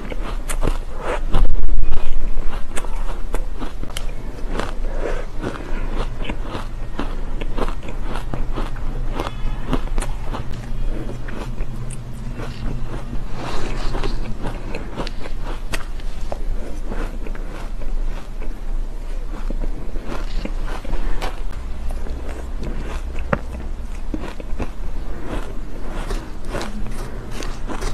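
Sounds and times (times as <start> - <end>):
crunching and chewing shaved ice: 0.0 - 27.9
steady low hum: 0.0 - 27.9.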